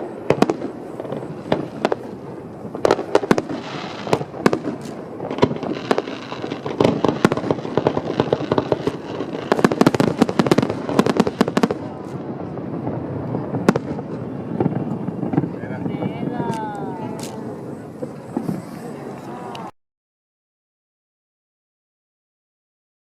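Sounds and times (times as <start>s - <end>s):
fireworks bursting with crackles: 0.0s - 19.7s.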